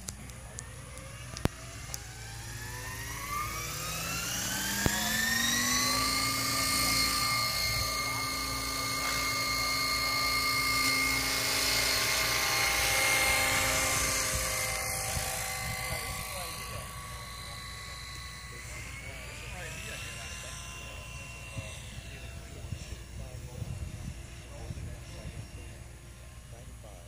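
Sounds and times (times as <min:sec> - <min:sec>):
model helicopter rotor whine: 0:00.0 - 0:27.0.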